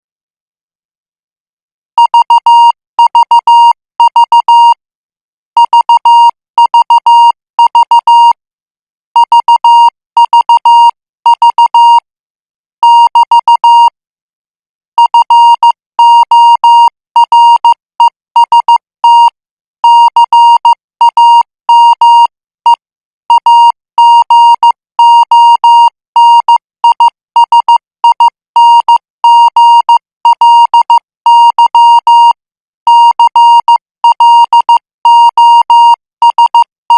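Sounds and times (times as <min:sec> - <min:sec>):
morse code beeps: 0:02.0 - 0:04.8, 0:05.6 - 0:08.4, 0:09.2 - 0:12.1, 0:12.8 - 0:14.0, 0:15.0 - 0:36.9.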